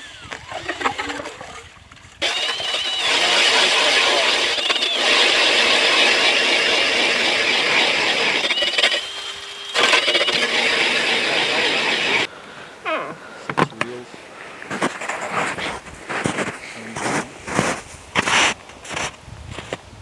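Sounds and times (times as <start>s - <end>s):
ice auger drilling with whine: 0.0s - 12.3s, 14.7s - 19.8s.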